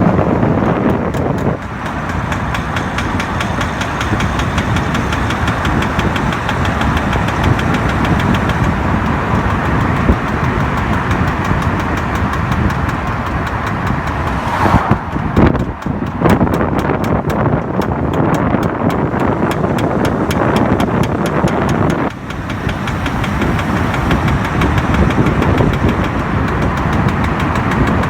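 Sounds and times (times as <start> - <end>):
road and engine noise: 0.0 - 28.0
driveline knocking rapidly: 0.5 - 28.0.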